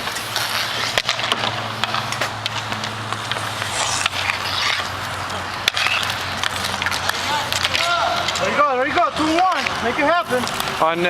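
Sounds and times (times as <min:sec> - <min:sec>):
hockey sticks and puck clacking: 0:00.0 - 0:11.0.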